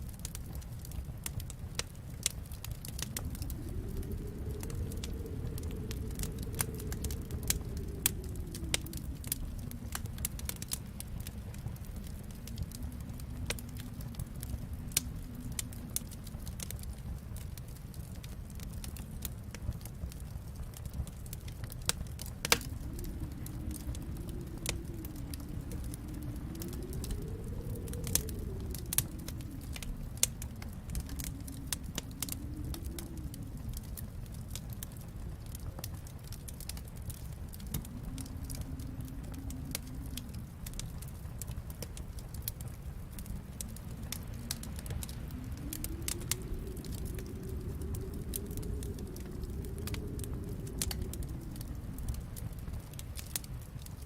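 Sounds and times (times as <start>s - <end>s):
howling wind: 0.0s - 54.0s
low rumble: 0.0s - 54.0s
wood fire crackling and popping: 0.0s - 54.0s.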